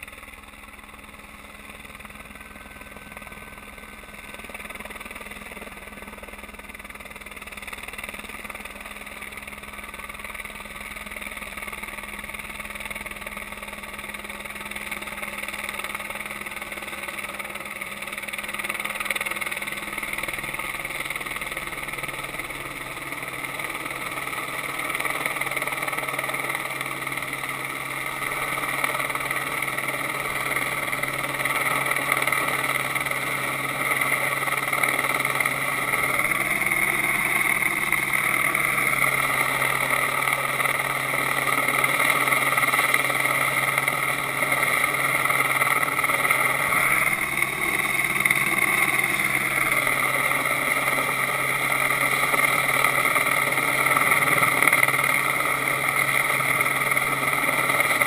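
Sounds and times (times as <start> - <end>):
helicopter drone overhead: 0.0 - 58.0.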